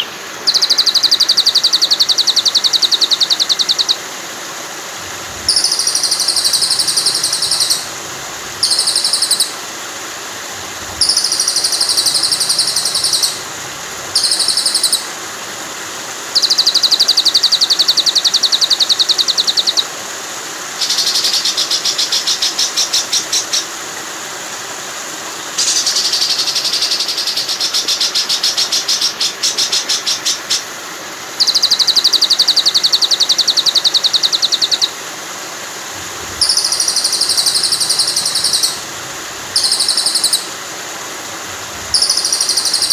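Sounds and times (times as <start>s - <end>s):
songbird buzzy trills: 0.0s - 20.0s, 20.7s - 23.8s, 24.6s - 42.9s
flowing water: 0.0s - 42.9s.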